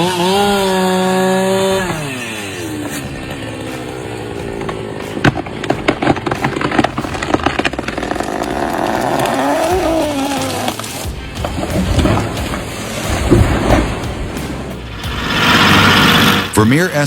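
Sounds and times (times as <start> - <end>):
wood cracking and snapping: 0.0 - 16.5
chainsaw cutting wood: 0.0 - 16.7.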